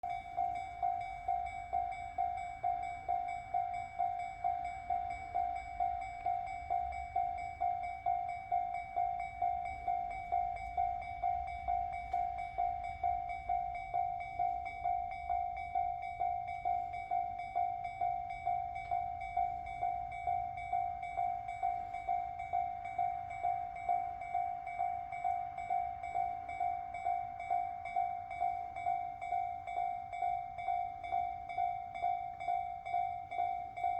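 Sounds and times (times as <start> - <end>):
level-crossing warning bell: 0.0 - 33.9.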